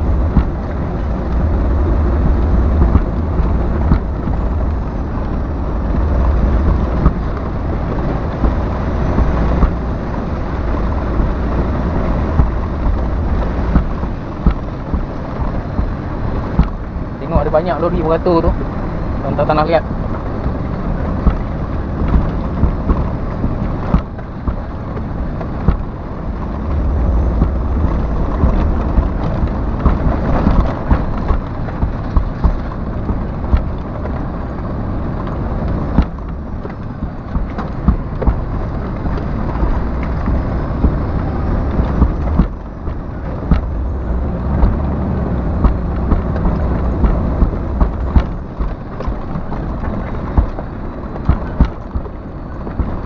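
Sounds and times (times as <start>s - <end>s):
cab knocks and rattles: 0.0s - 53.0s
truck engine and tyre rumble: 0.0s - 53.0s.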